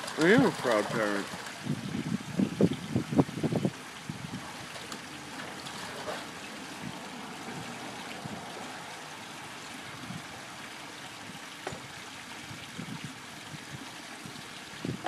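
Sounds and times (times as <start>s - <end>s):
pool water trickling: 0.0s - 15.0s.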